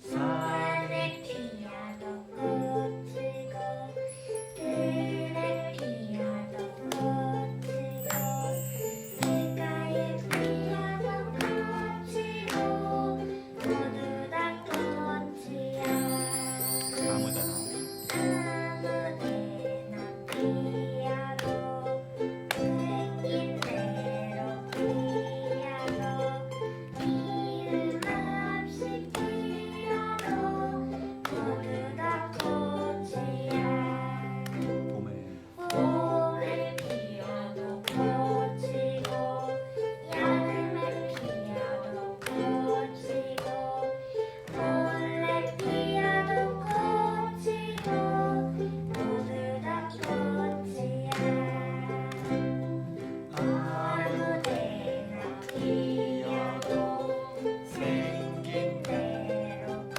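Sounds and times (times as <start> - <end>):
ukulele ensemble strumming: 0.0 - 59.9.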